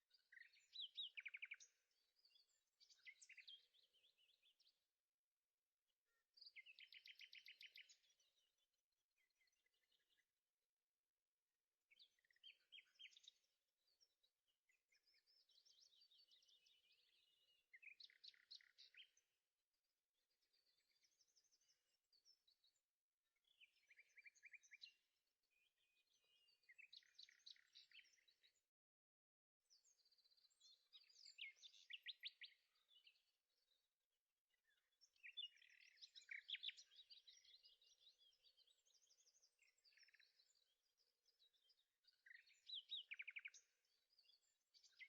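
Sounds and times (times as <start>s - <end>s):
faint birdsong trills: 0.0s - 45.0s.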